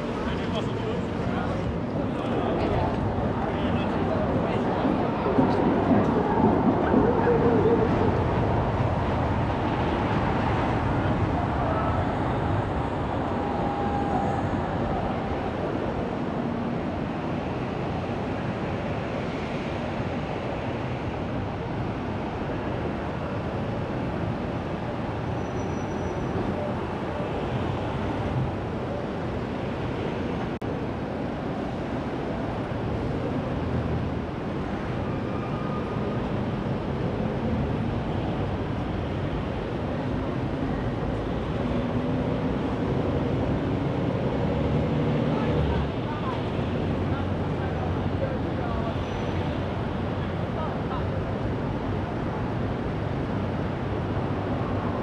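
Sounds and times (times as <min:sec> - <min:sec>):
city traffic noise: 0:00.0 - 0:55.0.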